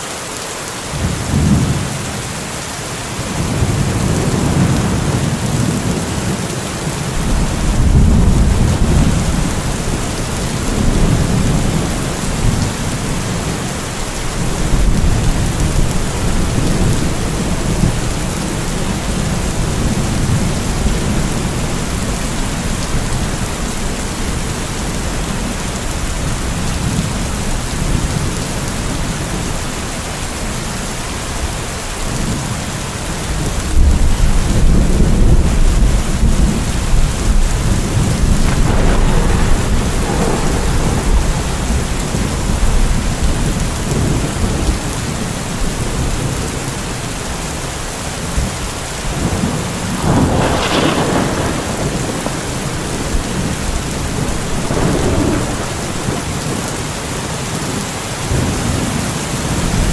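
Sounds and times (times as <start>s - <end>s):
heavy rain: 0.0s - 59.9s
rolling thunder: 3.3s - 29.7s, 33.2s - 47.6s, 48.2s - 57.0s.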